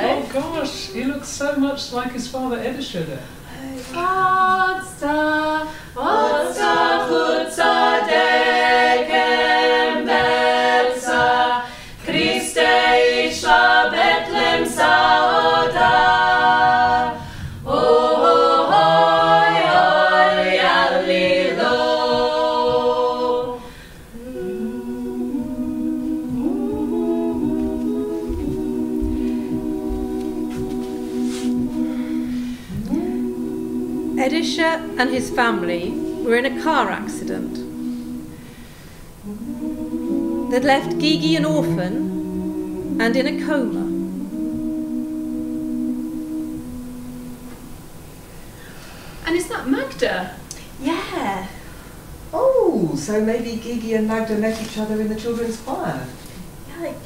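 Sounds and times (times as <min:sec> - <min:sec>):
vocal ensemble singing in harmony: 0:00.0 - 0:54.0.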